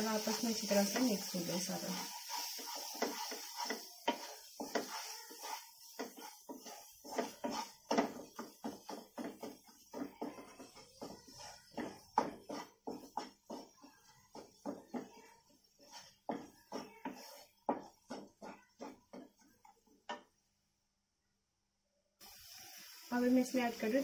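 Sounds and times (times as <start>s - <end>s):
wooden spatula scraping metal pan: 0.0s - 20.3s
paste frying: 0.0s - 20.6s, 22.2s - 24.0s.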